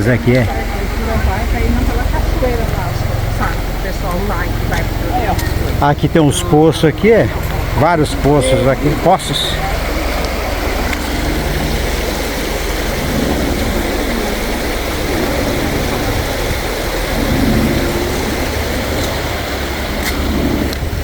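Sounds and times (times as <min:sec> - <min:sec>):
stream water rushing over rocks: 0:00.0 - 0:21.0.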